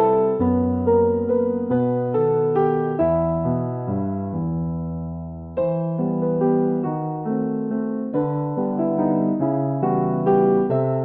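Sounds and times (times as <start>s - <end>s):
slow electric piano music: 0.0s - 11.0s.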